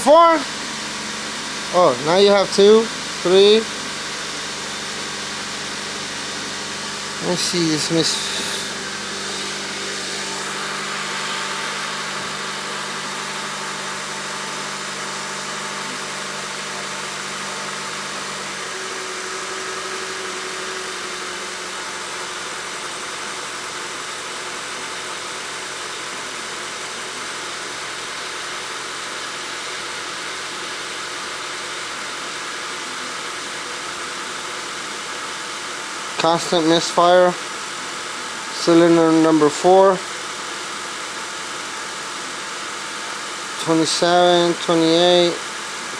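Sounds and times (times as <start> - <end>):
car engine idling with misfire: 0.0 - 45.9.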